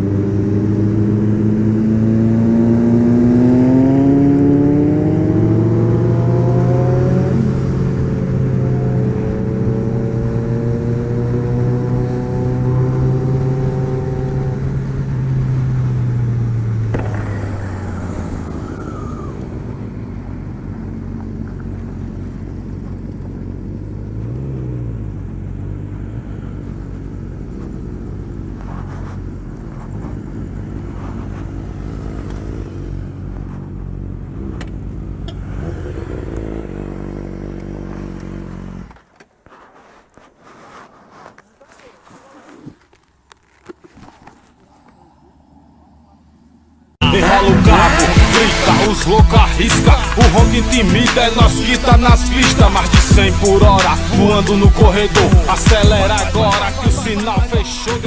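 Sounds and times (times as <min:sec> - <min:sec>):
vehicle engine revving and idling: 0:00.0 - 0:41.4, 0:44.6 - 0:58.0.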